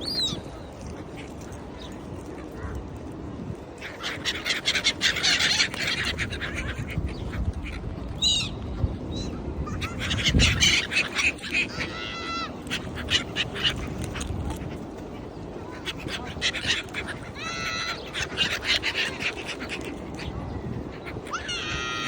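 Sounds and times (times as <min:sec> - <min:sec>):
gulls squawking: 0:00.0 - 0:22.0
bird repeated cries: 0:03.7 - 0:22.0.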